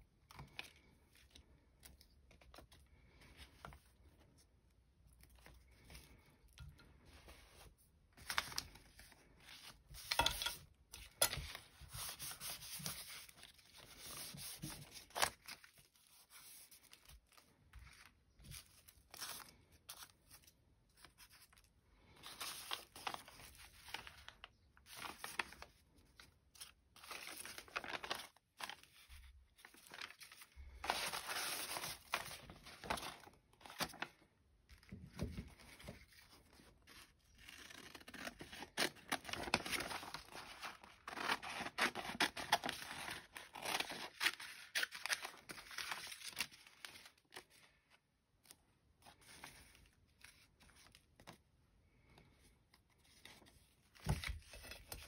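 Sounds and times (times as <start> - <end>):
paper rustling and crinkling: 0.2 - 51.5, 52.7 - 55.0.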